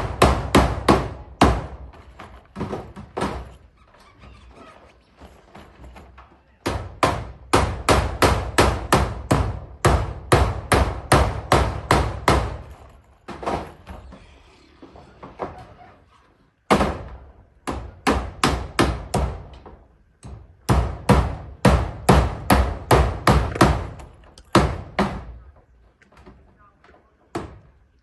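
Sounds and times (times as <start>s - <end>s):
hammer striking nails into metal roofing: 0.0s - 4.6s, 5.2s - 14.1s, 16.7s - 25.6s.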